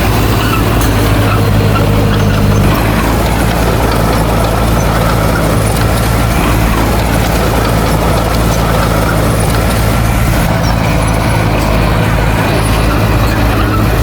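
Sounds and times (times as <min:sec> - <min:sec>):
diesel machine engine running: 0:00.0 - 0:14.0.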